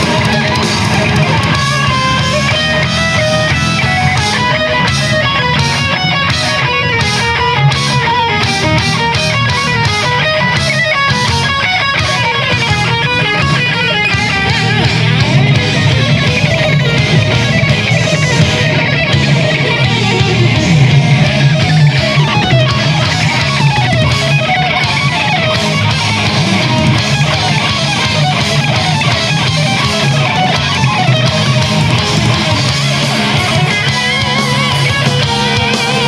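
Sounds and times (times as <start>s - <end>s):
electric lead guitars shredding: 0.0s - 36.0s
steady low backing: 0.0s - 36.0s.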